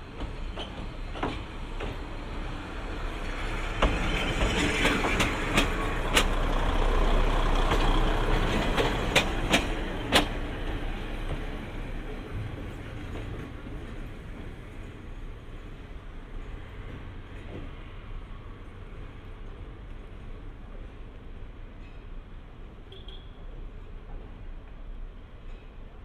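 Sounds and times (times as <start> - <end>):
diesel railcar engine running: 0.0 - 22.8.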